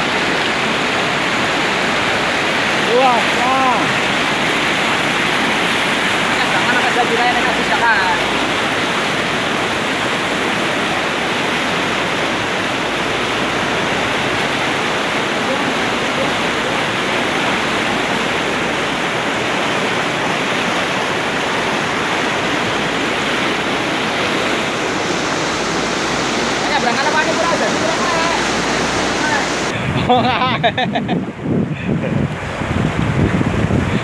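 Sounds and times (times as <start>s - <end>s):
river water rushing: 0.0s - 30.0s, 32.2s - 34.0s.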